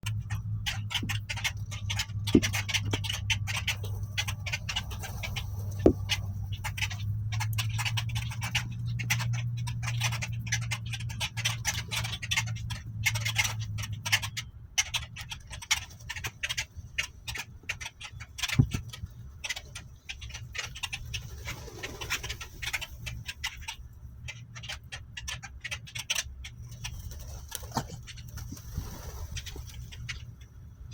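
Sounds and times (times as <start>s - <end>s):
birds chirping and chattering: 0.0s - 30.9s
low steady hum: 0.0s - 30.9s.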